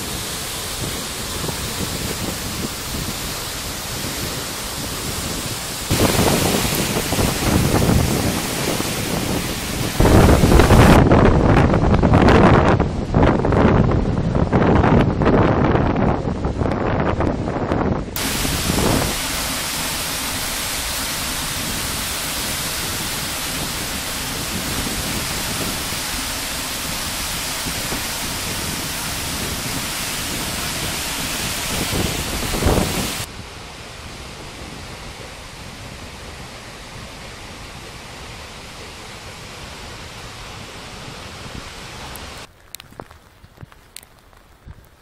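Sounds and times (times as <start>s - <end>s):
waterfall rushing: 0.0s - 11.8s, 18.2s - 42.5s
wind buffeting microphone: 0.0s - 37.2s.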